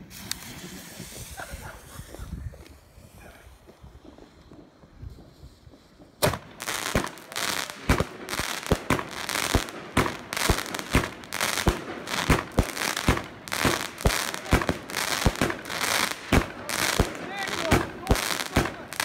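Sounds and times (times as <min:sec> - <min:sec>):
firework bursts hissing and crackling: 0:00.0 - 0:19.0.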